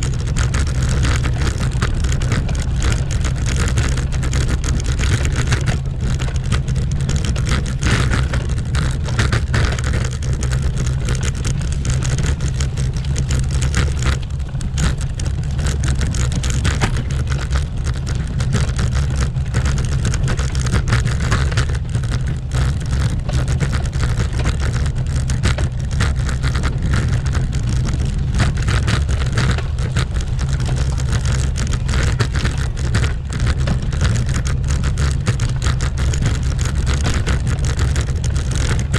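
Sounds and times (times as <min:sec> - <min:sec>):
bicycle rattling over cobblestones: 0:00.0 - 0:38.9.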